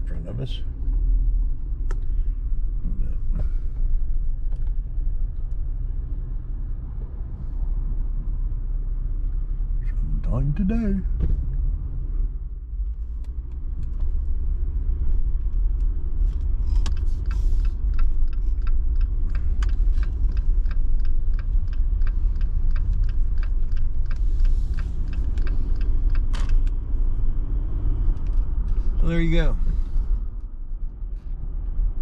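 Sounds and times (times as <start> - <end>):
vehicle road noise rumble: 0.0 - 32.0
light rapid ticks and rattles: 0.9 - 9.9, 12.9 - 32.0.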